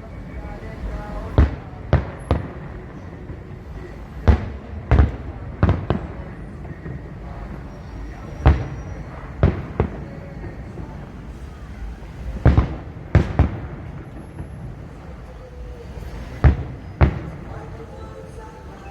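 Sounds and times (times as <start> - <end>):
fireworks bursting: 0.0 - 18.9.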